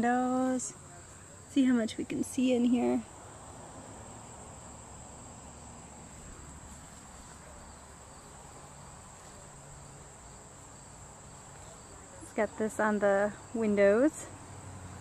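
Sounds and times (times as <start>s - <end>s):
high-pitched insect chorus: 0.0s - 15.0s
low background noise: 0.0s - 15.0s.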